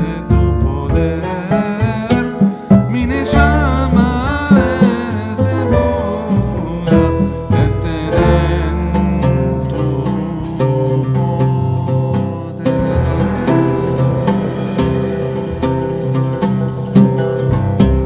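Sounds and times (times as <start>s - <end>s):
song with plucked strings and bass: 0.0s - 18.0s.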